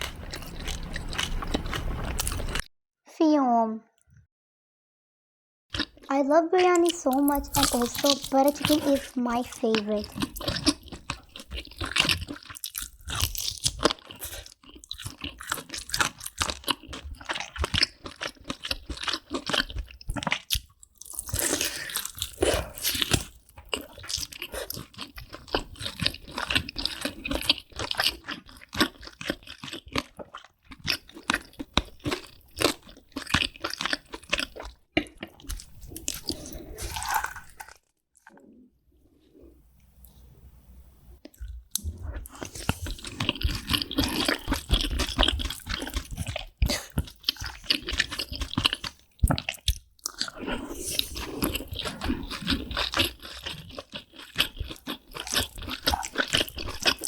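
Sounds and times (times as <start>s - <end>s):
crunchy bites and chewing: 0.0s - 2.7s, 5.7s - 6.1s, 7.2s - 38.5s, 41.3s - 57.0s.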